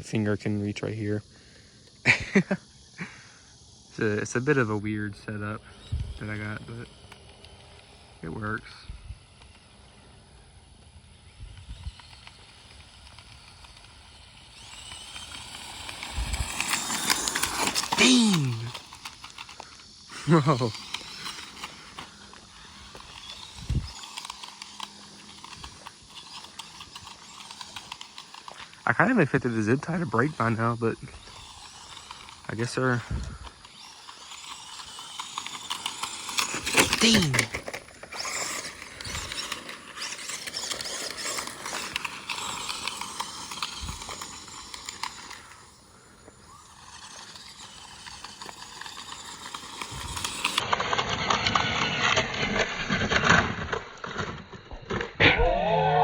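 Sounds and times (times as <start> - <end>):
faint steady hum: 0.0 - 50.7
rc truck on gravel: 0.0 - 56.0
grit and stones ticking: 3.6 - 55.2.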